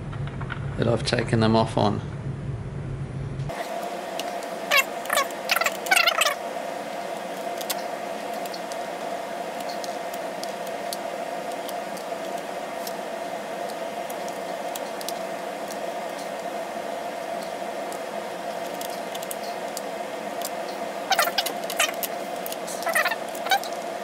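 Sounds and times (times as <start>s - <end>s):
steady hum and hiss: 0.0s - 24.0s.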